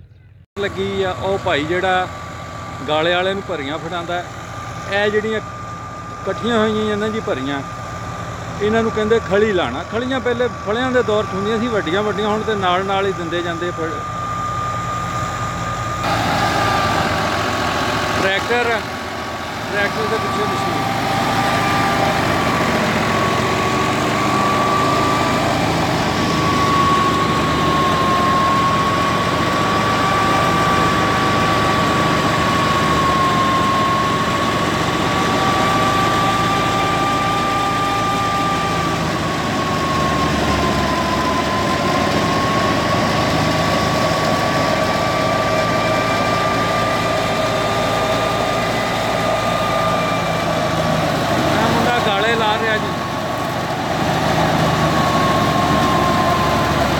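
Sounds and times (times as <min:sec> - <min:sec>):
thresher machine din with whine: 0:00.0 - 0:56.9
tractor engine under load: 0:00.0 - 0:56.9.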